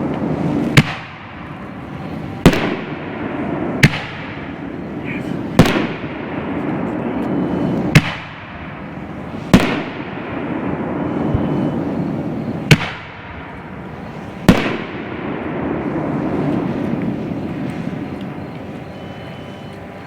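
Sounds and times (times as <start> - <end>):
firework shells bursting: 0.0 - 18.4
rolling echo: 0.0 - 20.0.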